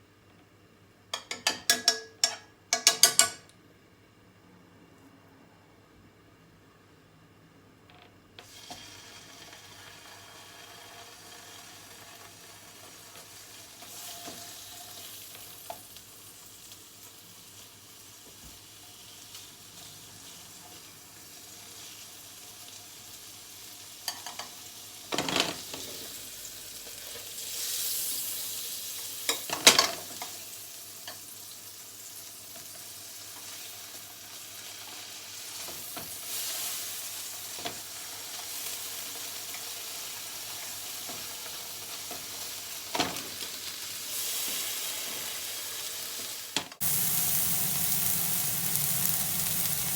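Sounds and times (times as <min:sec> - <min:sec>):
meat sizzling in a pan: 0:08.4 - 0:49.9.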